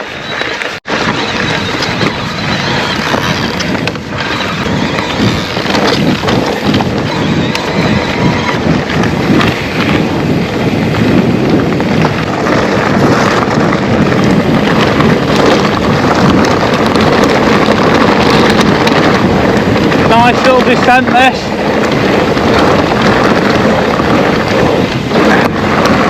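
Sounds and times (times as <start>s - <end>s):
tyres rolling over rocky trail: 0.0s - 26.0s
wind rushing over microphone: 0.0s - 26.0s.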